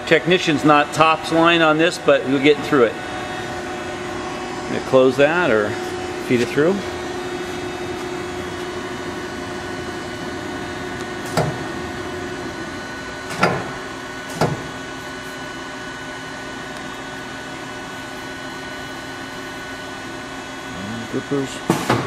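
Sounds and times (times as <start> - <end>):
lathe machine humming: 0.0 - 21.6.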